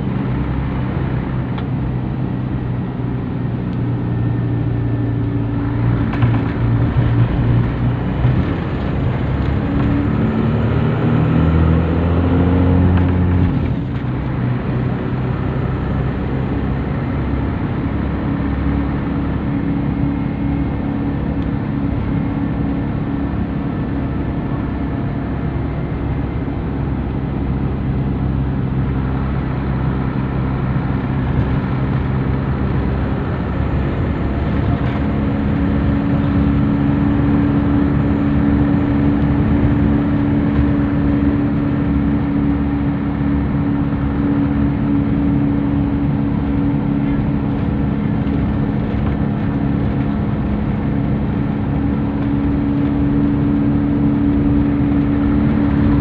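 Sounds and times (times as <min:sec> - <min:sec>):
coach diesel engine running: 0:00.0 - 0:56.0
road noise: 0:00.0 - 0:56.0
steady engine hum: 0:00.0 - 0:56.0.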